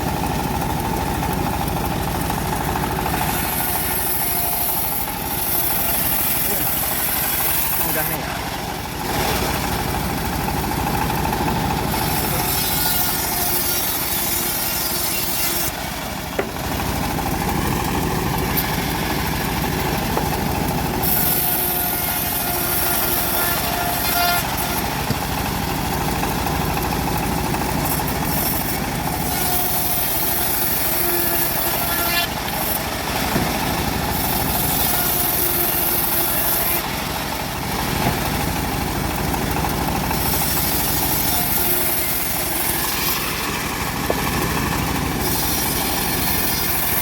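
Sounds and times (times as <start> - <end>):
bandsaw mill cutting log: 0.0 - 47.0.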